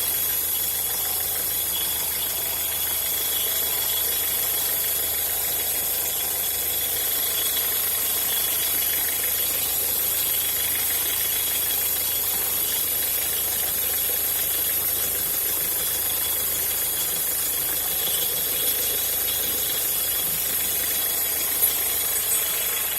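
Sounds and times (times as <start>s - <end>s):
strange engine noise: 0.0s - 22.9s
van engine running: 0.0s - 22.9s.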